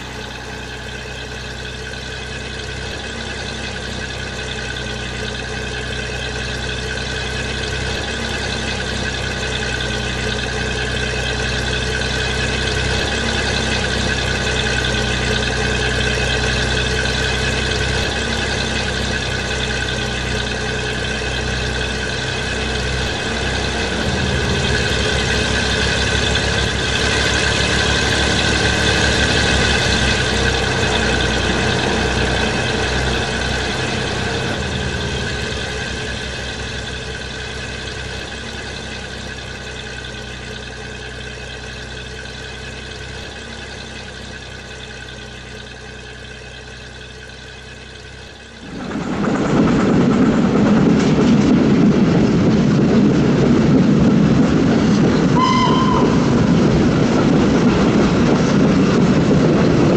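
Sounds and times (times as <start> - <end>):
model train engine drone: 0.0 - 59.9.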